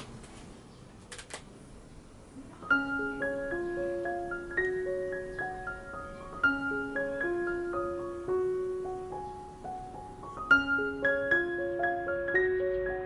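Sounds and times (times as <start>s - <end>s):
gentle piano melody: 2.5s - 13.0s.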